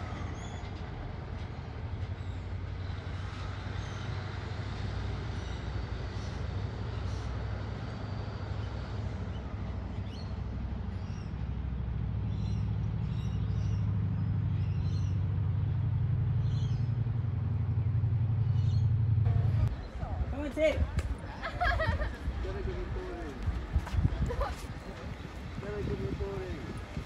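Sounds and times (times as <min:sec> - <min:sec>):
railcar diesel engine rumble: 0:00.0 - 0:27.0.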